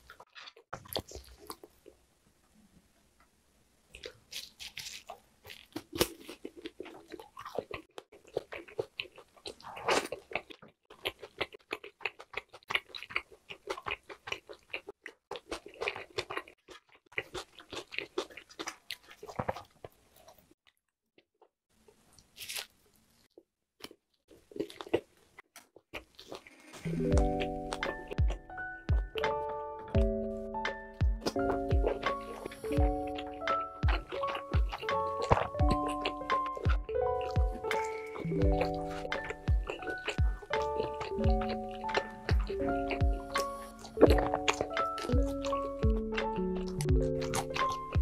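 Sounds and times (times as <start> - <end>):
close chewing and biting: 0.0 - 2.1, 3.9 - 48.0.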